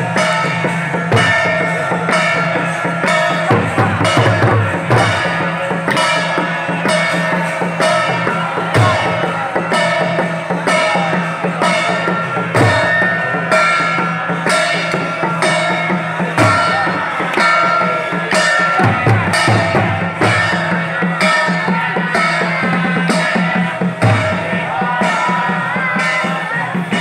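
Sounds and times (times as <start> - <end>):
drums beaten in steady rhythm: 0.0 - 27.0.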